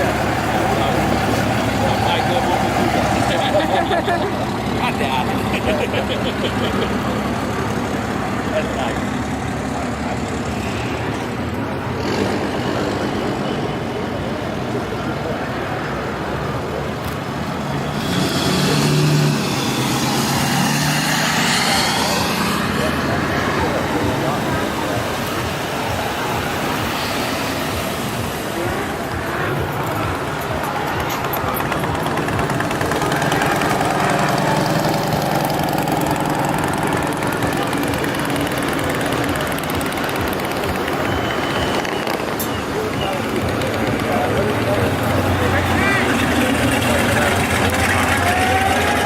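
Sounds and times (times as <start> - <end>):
road noise: 0.0 - 49.0
vehicle engine running: 0.0 - 49.0.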